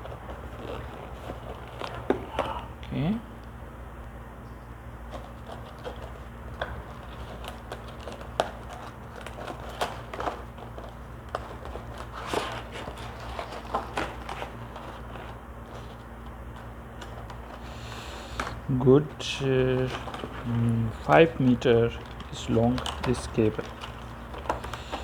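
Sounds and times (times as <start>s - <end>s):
packaging clicks taps and rustles: 0.0s - 2.6s, 5.0s - 25.0s
steady low hum: 0.0s - 25.0s.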